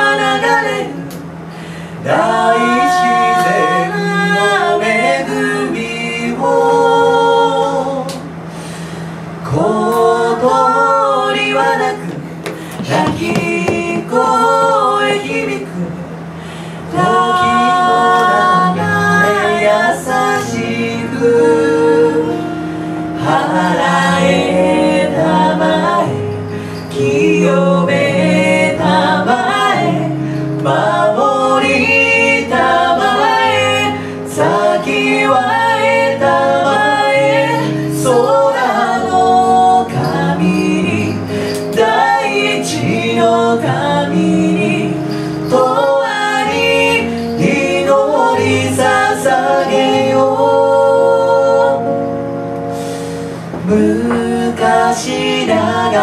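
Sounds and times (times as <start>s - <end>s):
woman singing into a microphone: 0.0s - 8.4s, 9.4s - 16.2s, 16.8s - 56.0s
guitar accompaniment: 0.0s - 56.0s.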